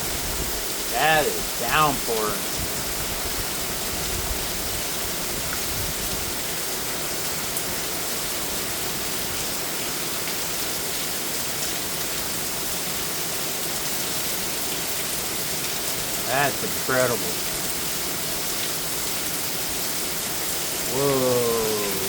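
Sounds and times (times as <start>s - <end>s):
runoff water falling: 0.0s - 22.0s
torrential rain pouring: 0.0s - 22.0s.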